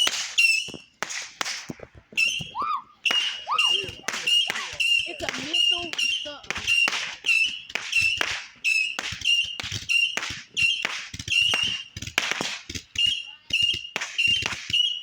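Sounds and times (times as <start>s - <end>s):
firework pops: 0.0s - 15.0s
high firework whistle: 0.0s - 15.0s.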